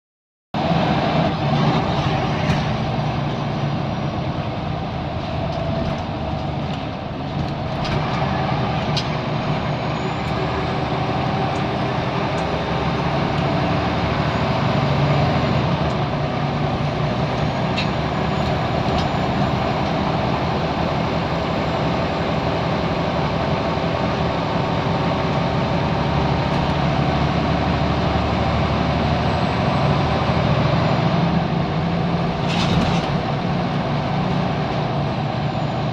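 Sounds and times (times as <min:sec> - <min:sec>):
diesel bus engine running: 0:00.6 - 0:35.9.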